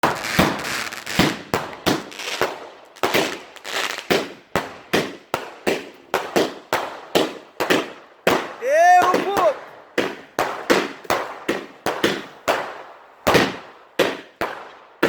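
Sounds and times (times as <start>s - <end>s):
firework bangs: 0.0s - 15.0s.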